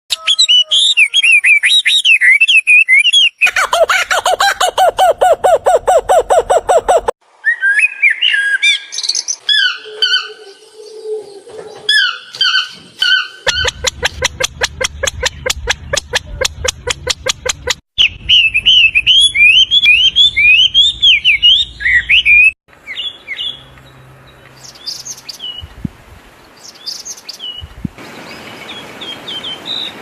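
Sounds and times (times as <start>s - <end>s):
birds calling: 0.1s - 7.1s, 8.0s - 25.8s.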